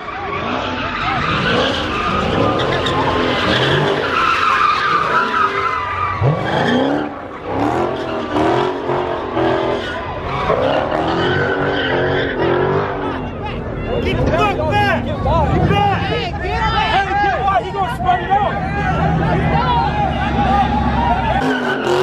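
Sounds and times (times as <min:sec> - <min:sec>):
car engines revving hard: 0:00.0 - 0:22.0
tires squealing: 0:00.0 - 0:22.0.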